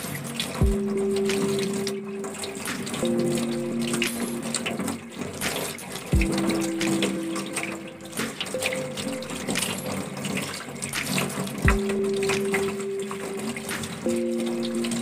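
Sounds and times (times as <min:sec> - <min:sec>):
background music: 0:00.0 - 0:15.0
tap water splashing: 0:00.0 - 0:15.0.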